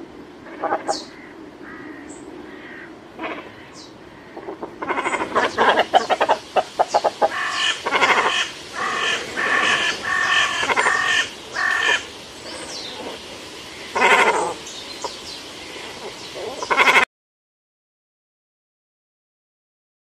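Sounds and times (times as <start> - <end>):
cormorants calling: 0.4 - 17.1.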